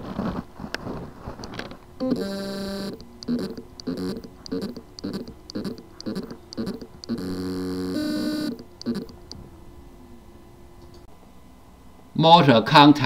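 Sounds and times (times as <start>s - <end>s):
hard drive buzzing: 0.2s - 11.8s.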